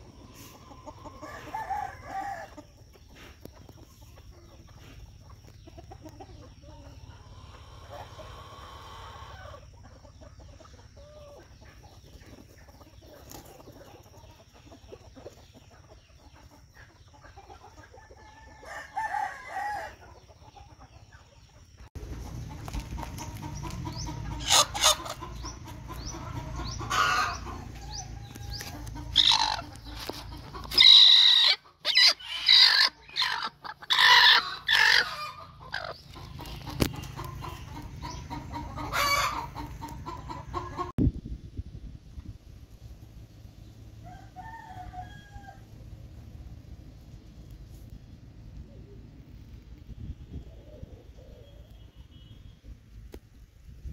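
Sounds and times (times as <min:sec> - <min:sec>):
chickens clucking and squawking: 0:00.0 - 0:53.9.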